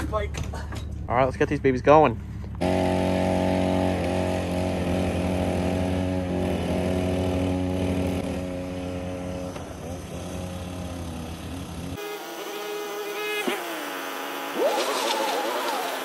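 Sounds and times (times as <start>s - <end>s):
pocket bike engines revving: 2.2s - 16.0s.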